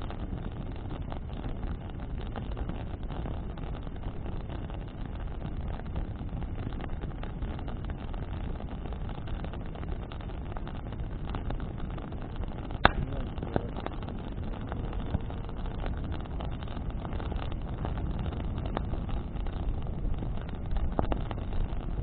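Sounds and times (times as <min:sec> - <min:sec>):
burning wood crackling: 0:00.0 - 0:22.0
loud pop from fire: 0:00.0 - 0:22.0
wind on microphone: 0:00.0 - 0:22.0.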